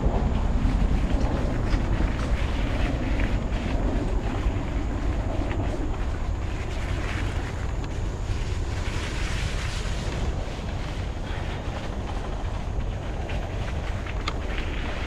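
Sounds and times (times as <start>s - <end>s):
tyres rolling over gravel: 0.0s - 15.0s
wind buffeting microphone: 0.0s - 15.0s.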